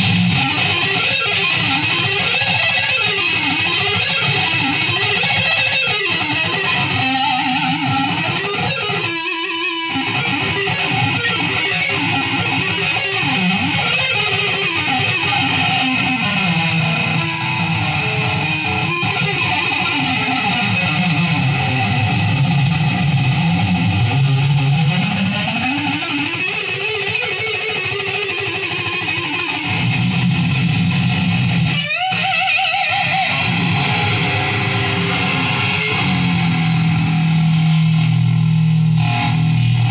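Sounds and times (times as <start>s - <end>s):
electric guitar bending notes: 0.0s - 39.9s.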